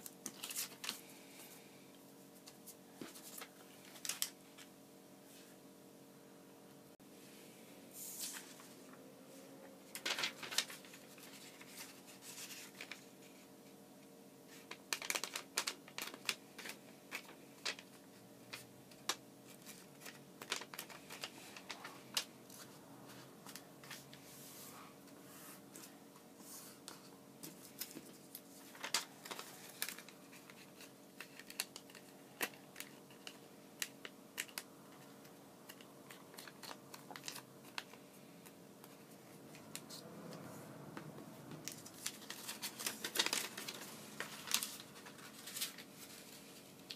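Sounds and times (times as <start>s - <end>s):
paper crinkling and folding: 0.0s - 1.5s, 2.3s - 4.7s, 8.0s - 13.6s, 14.5s - 40.5s, 41.1s - 46.9s
faint steady hum: 0.0s - 46.9s.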